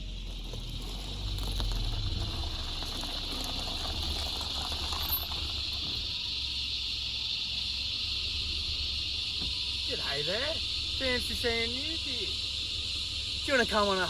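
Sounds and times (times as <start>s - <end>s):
insect chorus buzzing: 0.0s - 14.0s
low uneven rumble: 0.0s - 14.0s.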